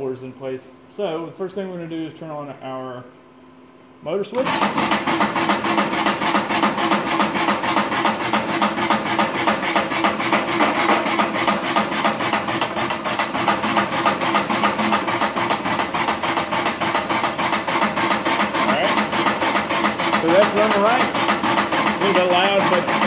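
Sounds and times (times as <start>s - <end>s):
coffee roaster drum rattling and ticking: 4.4s - 23.0s.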